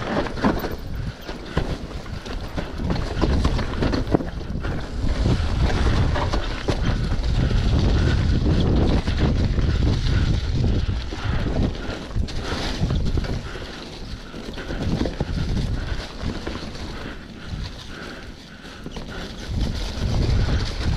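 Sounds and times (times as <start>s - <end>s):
bike rattling knocks: 0.0s - 17.1s
tyres rumbling on dirt: 0.0s - 20.9s
wind buffeting microphone: 0.0s - 20.9s.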